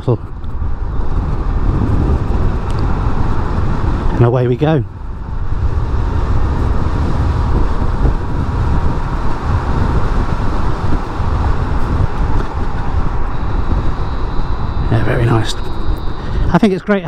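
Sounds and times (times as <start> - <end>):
tyre and road noise: 0.0 - 16.8
wind buffeting on microphone: 0.0 - 17.0.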